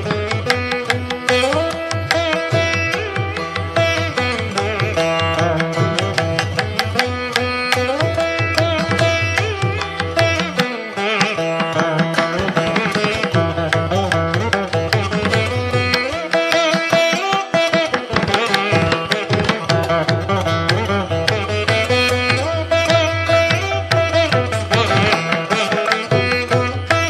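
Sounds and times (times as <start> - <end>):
hand drum strokes: 0.0 - 27.0
plucked string melody: 0.0 - 27.0.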